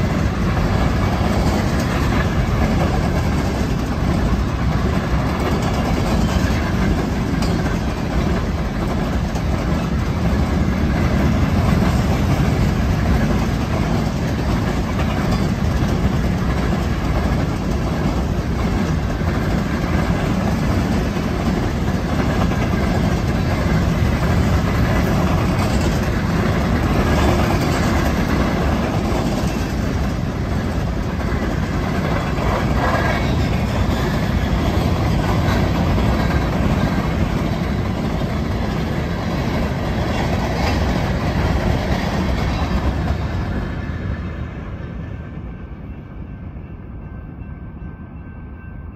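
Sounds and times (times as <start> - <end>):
freight train wheels rolling: 0.0 - 48.6.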